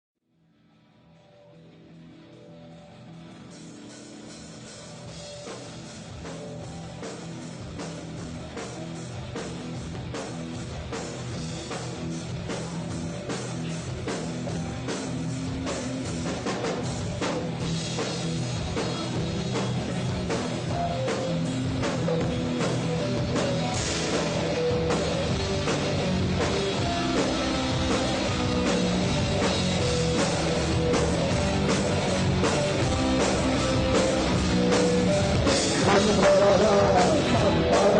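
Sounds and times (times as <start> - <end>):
rock band playing live: 1.4 - 37.9.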